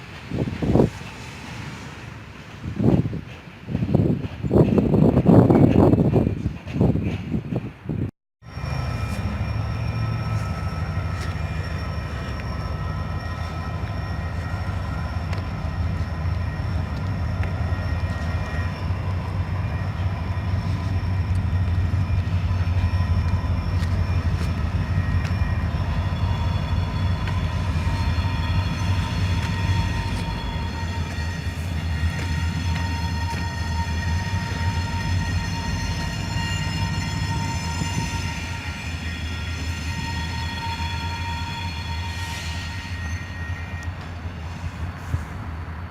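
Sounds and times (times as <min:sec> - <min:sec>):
train engine rumble: 0:00.0 - 0:45.9.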